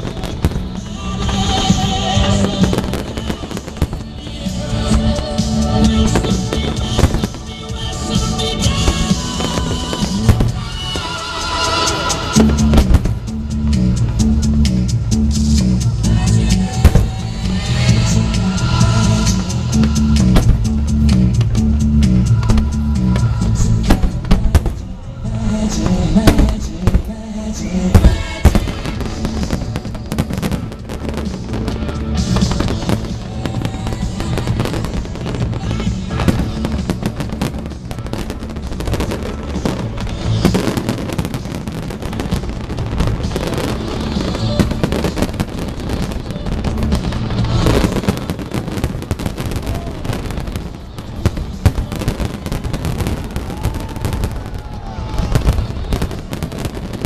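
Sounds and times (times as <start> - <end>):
fireworks bangs and crackling: 0.0 - 57.0
music: 0.0 - 57.0.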